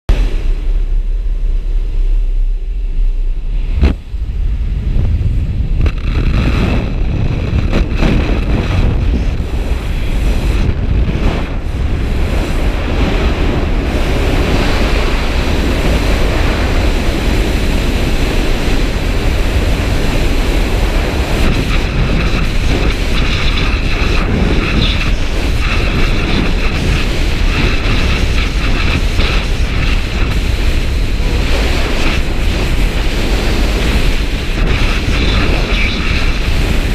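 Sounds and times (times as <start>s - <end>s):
airplane cabin noise: 0.1s - 36.9s
wind buffeting microphone: 0.1s - 36.9s.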